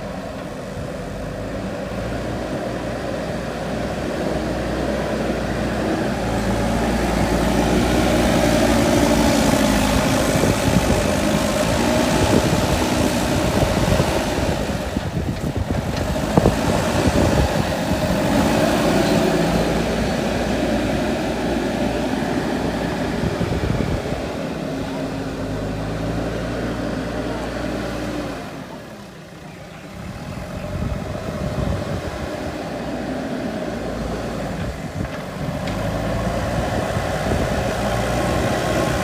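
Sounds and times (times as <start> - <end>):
diesel engine revving: 0.0 - 39.0.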